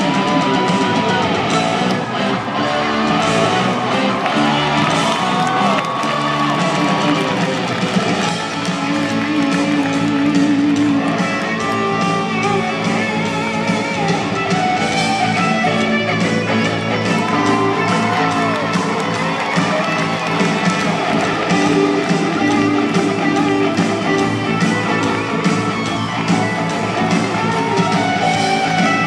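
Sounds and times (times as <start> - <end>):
electric guitar: 0.0 - 29.0
live rock band: 0.0 - 29.0.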